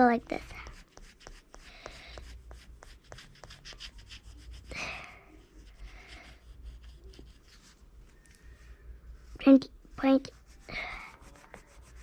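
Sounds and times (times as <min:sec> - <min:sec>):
pastel scratching on paper: 0:00.0 - 0:07.8, 0:10.0 - 0:12.0.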